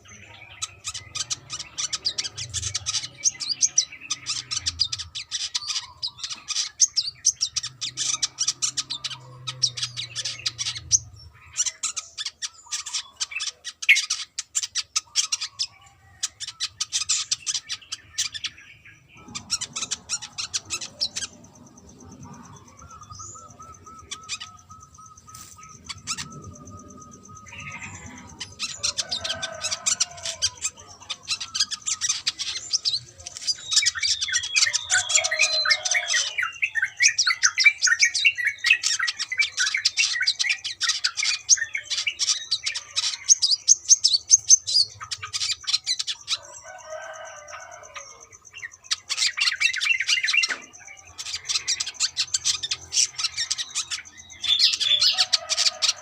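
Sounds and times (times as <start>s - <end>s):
bird twittering chirps: 0.0s - 56.0s.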